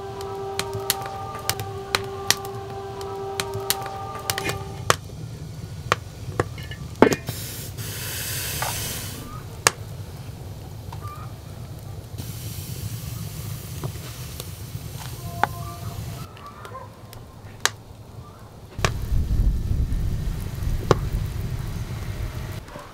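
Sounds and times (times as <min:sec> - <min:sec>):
kitchen hiss: 0:00.0 - 0:16.3, 0:18.8 - 0:22.9
steady low hum: 0:00.0 - 0:16.3, 0:17.0 - 0:22.7.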